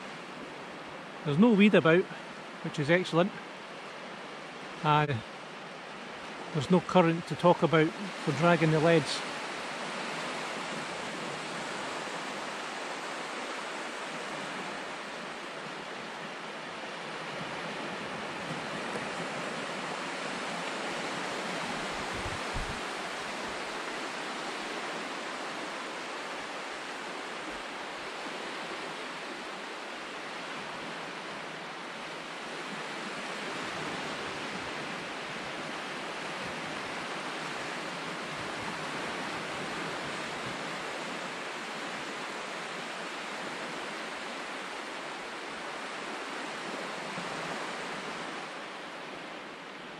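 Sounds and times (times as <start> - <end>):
small waves washing up a beach: 0.0 - 49.9.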